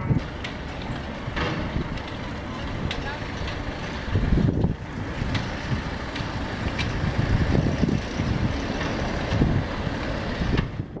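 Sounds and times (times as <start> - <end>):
traffic rumble on a bridge: 0.0 - 11.0.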